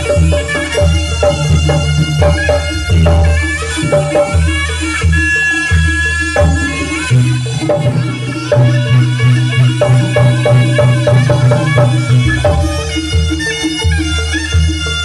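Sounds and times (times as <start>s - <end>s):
drums and percussion rhythm: 0.0s - 15.0s
held melodic tones: 0.0s - 15.0s.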